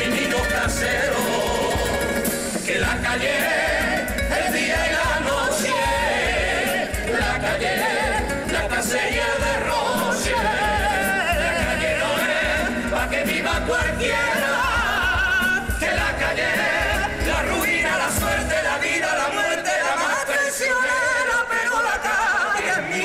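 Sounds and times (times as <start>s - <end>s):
steady drum beat: 0.0s - 19.0s
guitars: 0.0s - 19.6s
male choir singing in harmony: 0.0s - 23.0s.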